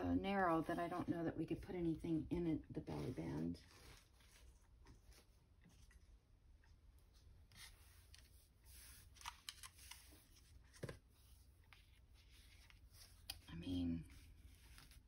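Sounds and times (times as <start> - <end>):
paper rustling: 2.9 - 15.0.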